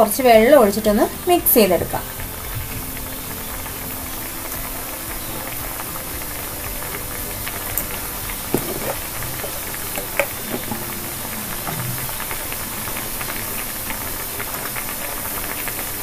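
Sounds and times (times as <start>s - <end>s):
pot boiling with bubble pops: 0.0s - 16.0s.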